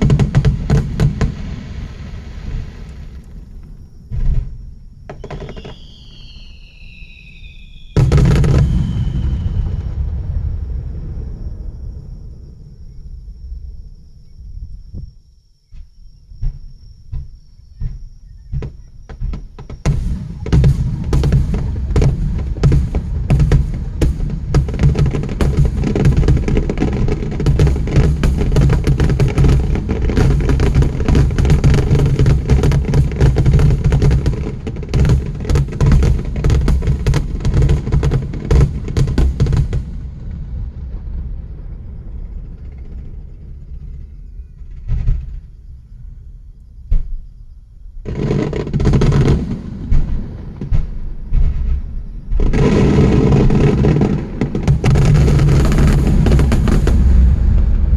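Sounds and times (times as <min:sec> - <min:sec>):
deep rumble: 0:00.0 - 0:05.1, 0:07.8 - 0:15.3, 0:16.1 - 0:48.0, 0:49.9 - 0:57.9
fireworks crackle: 0:00.0 - 0:12.8, 0:18.6 - 0:44.0, 0:48.0 - 0:57.9
fireworks bangs: 0:00.0 - 0:14.0, 0:16.3 - 0:46.3, 0:48.0 - 0:57.9.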